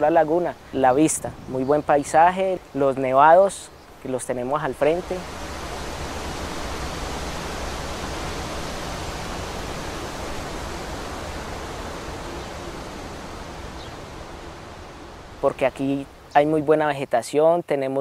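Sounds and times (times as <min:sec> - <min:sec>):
rushing outdoor ambience: 0:00.0 - 0:18.0.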